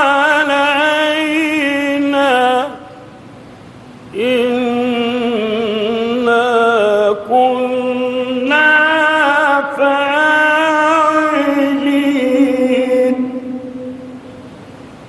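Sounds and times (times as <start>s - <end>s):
man chanting recitation: 0.0s - 3.0s, 4.1s - 14.1s.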